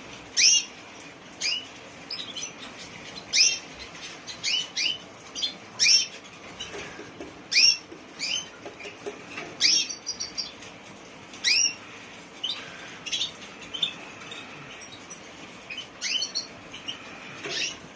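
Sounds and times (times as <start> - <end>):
canary chirping: 0.3 - 17.9.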